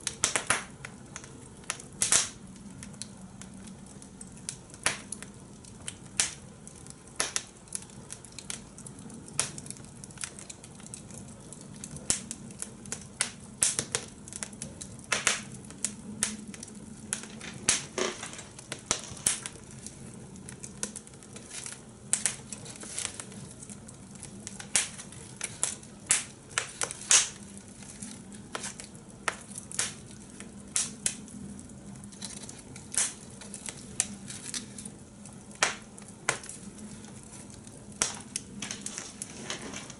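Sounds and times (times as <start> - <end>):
faint steady hum: 0.0 - 39.9
fire crackling and popping: 0.0 - 39.9.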